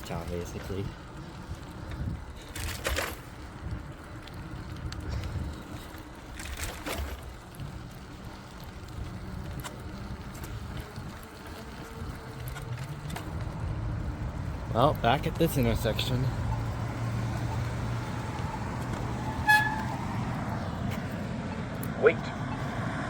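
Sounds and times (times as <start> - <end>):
wind and road noise: 0.0 - 23.0
small clicks and rattles: 0.2 - 19.2.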